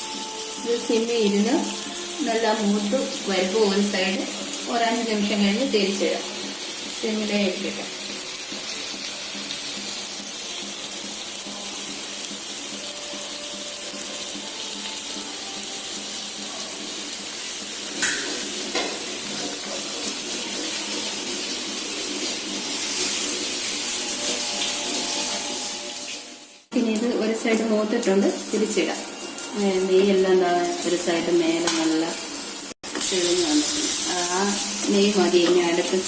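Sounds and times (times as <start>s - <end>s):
fish sizzling in a pan: 0.0s - 36.0s.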